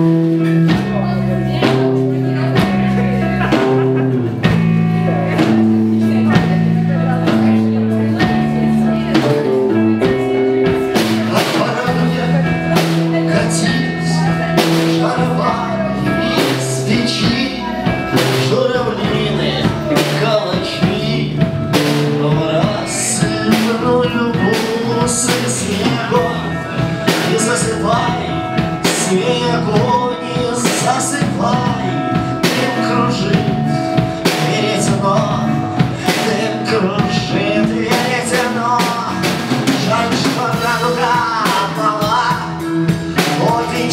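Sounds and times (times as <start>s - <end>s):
drum kit beat: 0.0s - 43.9s
instrumental rock music: 0.0s - 43.9s.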